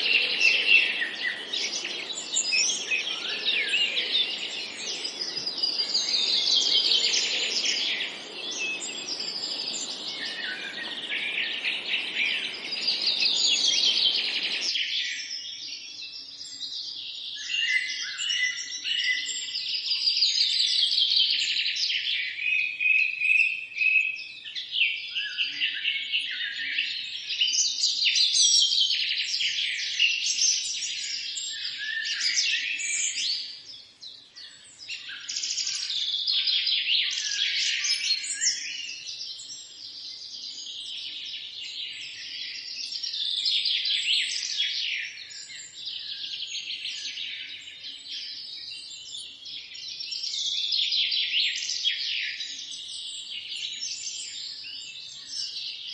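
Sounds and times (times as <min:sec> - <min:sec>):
songbirds chirping and singing: 0:00.0 - 0:22.0, 0:23.8 - 0:55.9.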